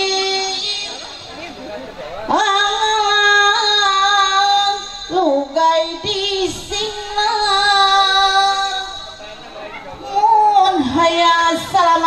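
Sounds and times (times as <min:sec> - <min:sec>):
woman singing into a microphone: 0:00.0 - 0:01.3, 0:02.3 - 0:09.2, 0:10.0 - 0:12.0.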